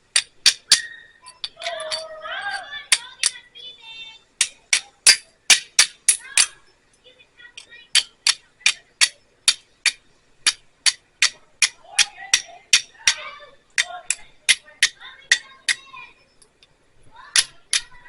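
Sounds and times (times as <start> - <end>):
steel striker scraping flint: 0.1 - 3.4, 4.4 - 6.6, 7.6 - 16.7, 17.3 - 18.0.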